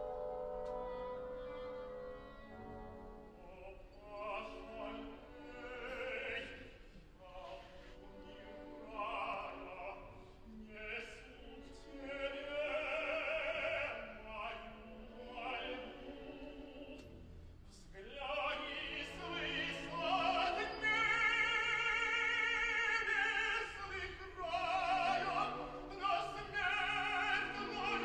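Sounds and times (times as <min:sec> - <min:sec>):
operatic singing: 0:00.0 - 0:17.1, 0:17.7 - 0:28.0
orchestra: 0:00.0 - 0:28.0.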